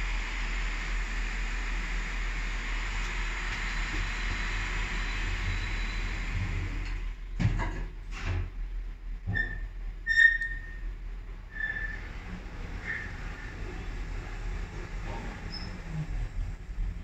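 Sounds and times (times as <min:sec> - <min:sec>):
lift humming and whining: 0:00.0 - 0:07.4, 0:08.6 - 0:17.0.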